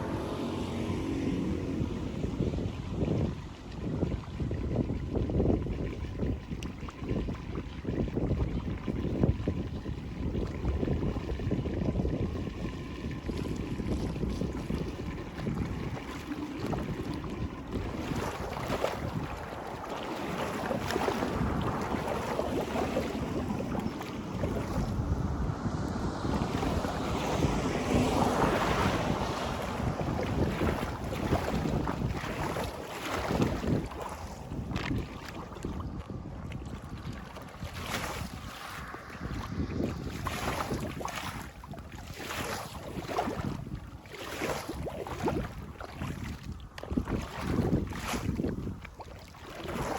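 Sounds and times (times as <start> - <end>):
flood water rushing and churning: 0.0 - 49.9
wind buffeting microphone: 0.0 - 49.9.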